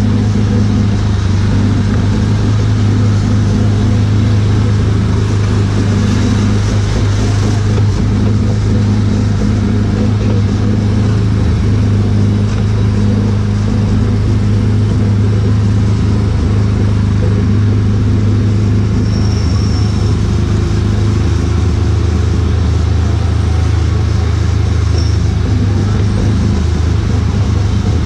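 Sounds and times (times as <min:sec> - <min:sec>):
small gasoline engine droning: 0:00.0 - 0:28.0.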